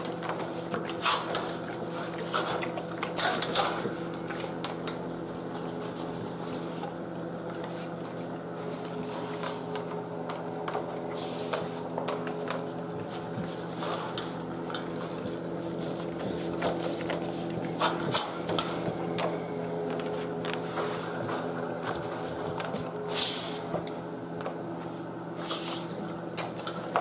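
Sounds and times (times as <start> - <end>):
dog licking and chewing: 0.0 - 23.1
steady low hum: 0.0 - 27.0.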